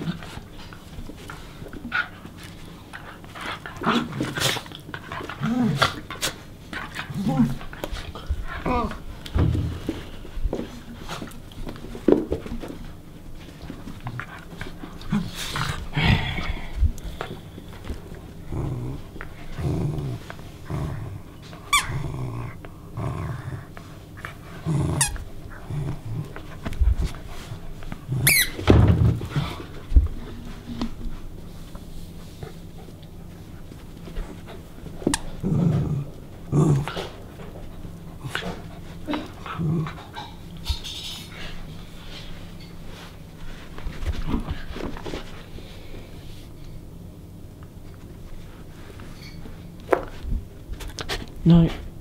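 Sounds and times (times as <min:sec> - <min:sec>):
dogs play growling: 0:00.0 - 0:52.0.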